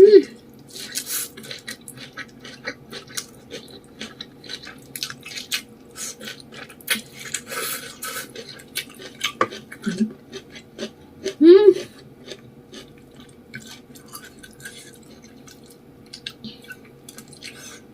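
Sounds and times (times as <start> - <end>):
chewing and wet mouth smacks: 0.8 - 10.9, 11.9 - 17.8.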